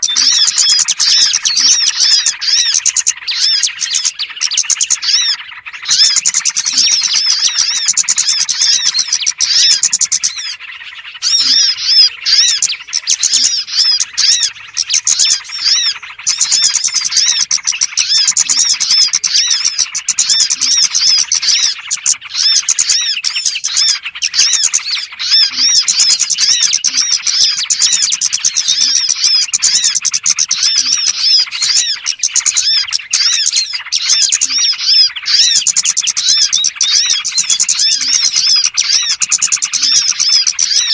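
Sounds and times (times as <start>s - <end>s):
small birds chirping and trilling: 0.0s - 40.9s.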